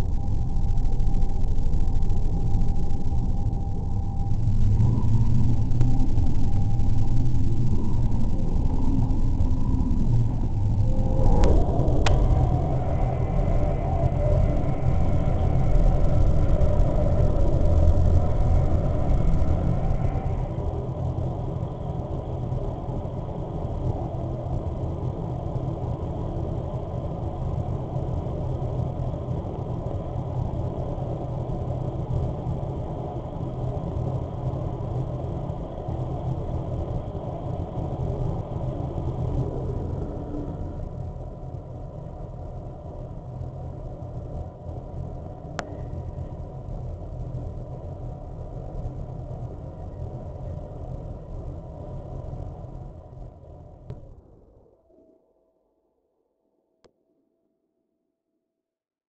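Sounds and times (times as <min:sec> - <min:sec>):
dark ambient drone music: 0:00.0 - 0:54.4.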